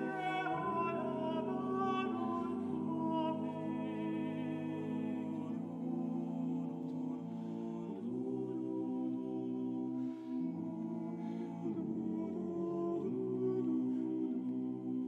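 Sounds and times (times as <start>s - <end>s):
male choir singing sustained chords: 0.0s - 15.0s.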